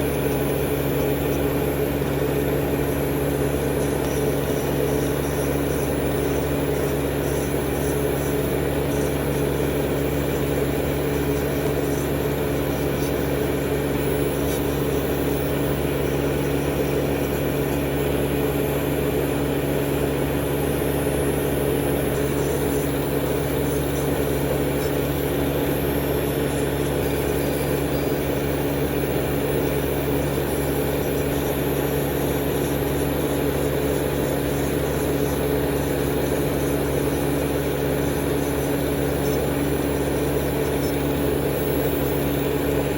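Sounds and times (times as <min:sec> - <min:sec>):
electric motor hum: 0:00.0 - 0:42.9.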